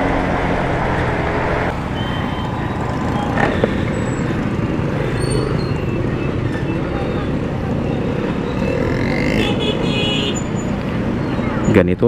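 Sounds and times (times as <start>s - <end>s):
road noise: 0.0s - 12.0s
surrounding vehicles: 0.0s - 12.0s.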